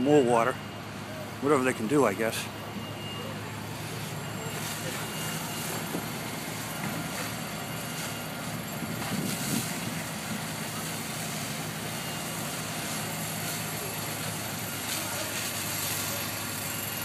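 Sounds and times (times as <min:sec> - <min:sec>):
fire truck engine running: 0:00.0 - 0:17.0.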